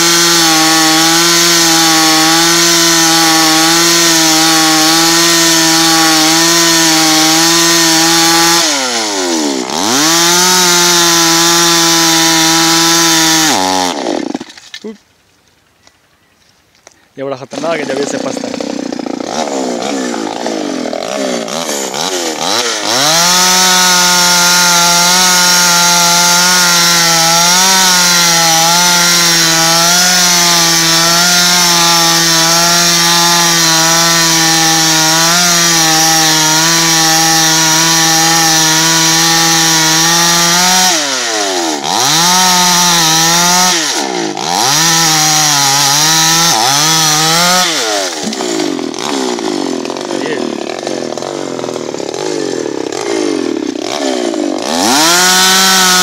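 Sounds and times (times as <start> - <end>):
chainsaw cutting wood: 0.0 - 15.0, 17.5 - 56.0.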